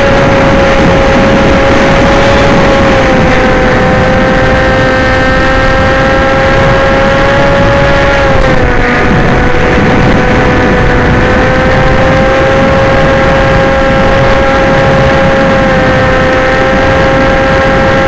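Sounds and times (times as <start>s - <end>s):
model aircraft motor whine: 0.0s - 18.0s
rushing wind: 0.0s - 18.0s.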